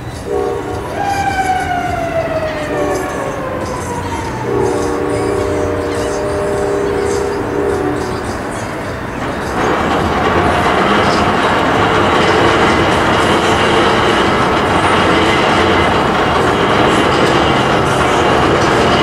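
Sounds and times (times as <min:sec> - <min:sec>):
train cars rolling on rails: 0:00.0 - 0:19.0.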